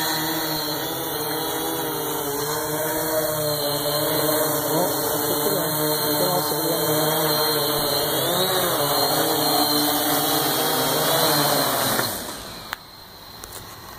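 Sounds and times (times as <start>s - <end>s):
drone propellers humming: 0.0s - 13.9s.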